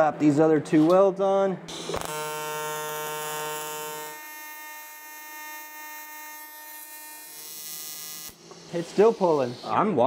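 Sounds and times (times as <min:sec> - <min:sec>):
welding arc electrical buzz: 0:01.7 - 0:09.8.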